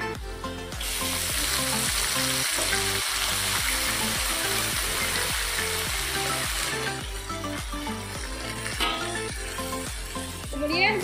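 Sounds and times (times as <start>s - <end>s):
vegetables sizzling in hot oil: 0.8s - 11.0s.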